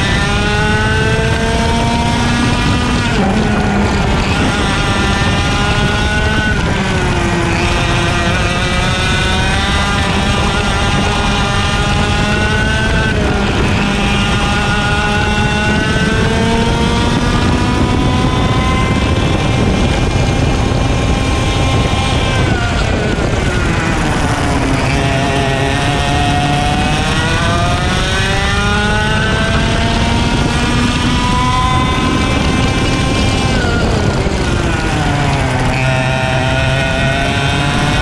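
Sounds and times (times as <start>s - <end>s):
kart engine revving: 0.0s - 38.0s.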